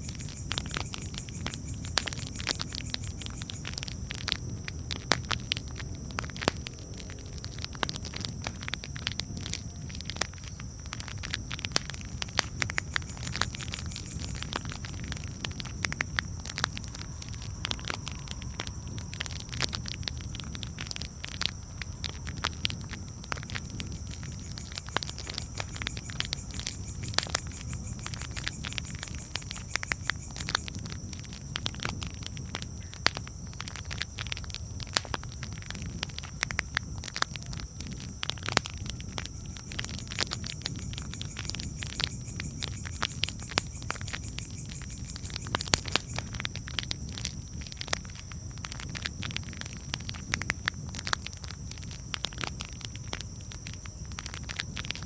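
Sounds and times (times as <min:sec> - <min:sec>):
fire low rumble: 0:00.0 - 0:45.6
campfire crackling: 0:00.0 - 0:55.0.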